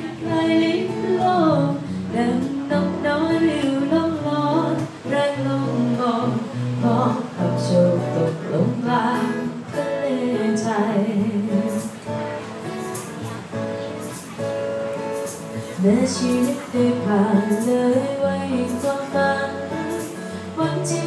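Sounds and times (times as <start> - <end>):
woman singing: 0.0 - 12.4, 15.6 - 21.0
strummed acoustic guitar: 0.0 - 21.0.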